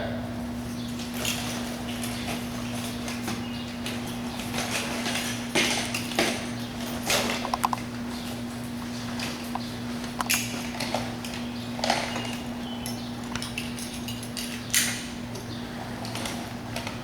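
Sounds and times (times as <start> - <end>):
steady low hum: 0.0 - 17.0
air-pack gear clinking and rustling: 0.7 - 17.0.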